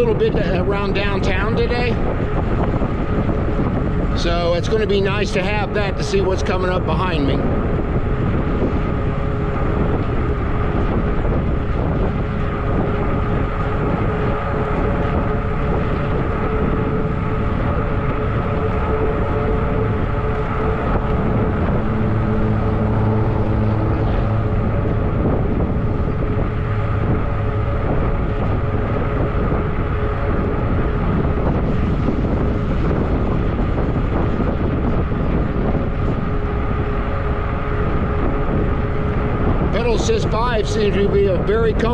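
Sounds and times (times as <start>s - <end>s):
deep hum: 0.0s - 41.9s
electric bike motor whine: 0.0s - 41.9s
wind: 0.0s - 41.9s.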